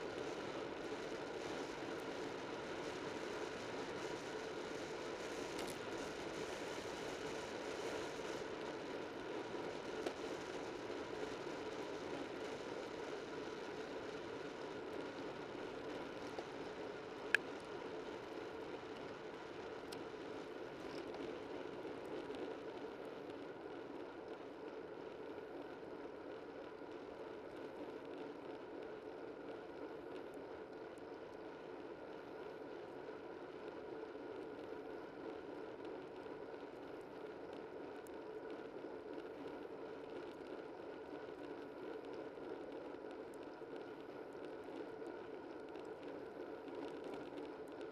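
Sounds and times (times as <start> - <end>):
bicycle tyre noise on road: 0.0 - 47.9.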